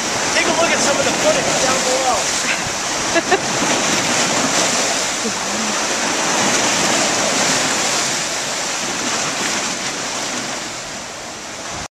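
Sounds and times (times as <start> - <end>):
seawater rushing and splashing: 0.0 - 11.9.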